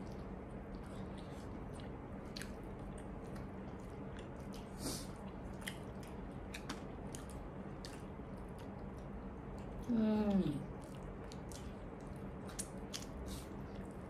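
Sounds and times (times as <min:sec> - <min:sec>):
person chewing and biting food: 0:00.0 - 0:09.9, 0:10.6 - 0:14.0.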